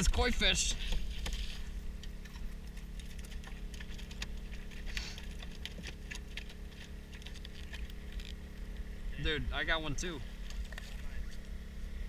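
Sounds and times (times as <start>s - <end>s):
generator engine drone: 0.0s - 12.0s.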